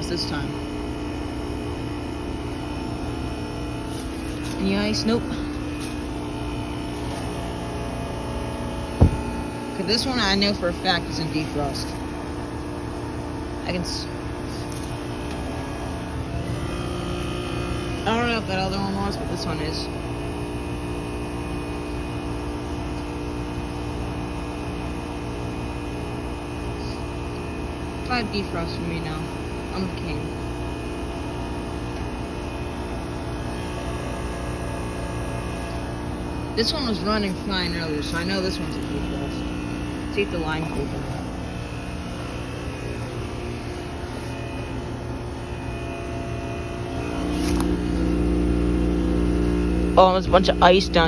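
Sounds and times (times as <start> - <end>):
heat pump compressor hum: 0.0 - 51.0.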